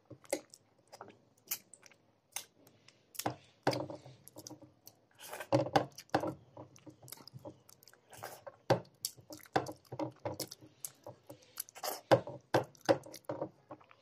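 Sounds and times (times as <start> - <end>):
wet chewing and smacking: 0.1 - 3.4, 4.2 - 14.0.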